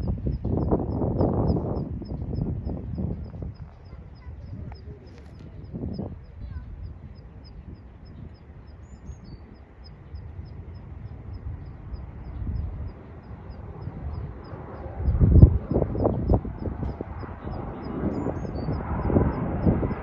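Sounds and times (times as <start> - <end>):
distant jet airliner taking off: 0.0 - 20.0
faint high ticking: 0.0 - 20.0
wind buffeting microphone: 0.0 - 20.0.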